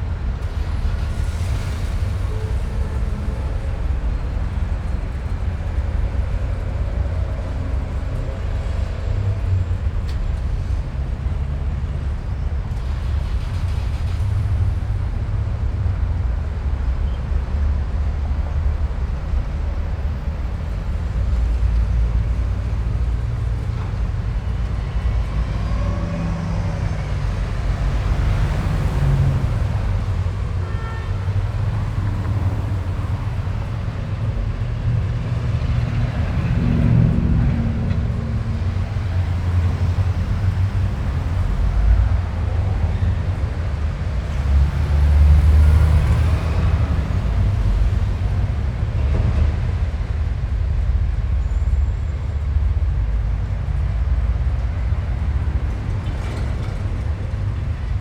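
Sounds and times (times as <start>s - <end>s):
low rumble of motor vehicles: 0.0s - 58.0s.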